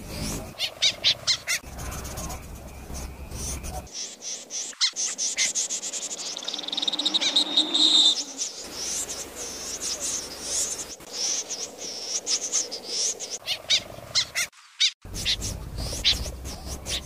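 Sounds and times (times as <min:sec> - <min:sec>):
snipe calling: 0:00.1 - 0:17.0.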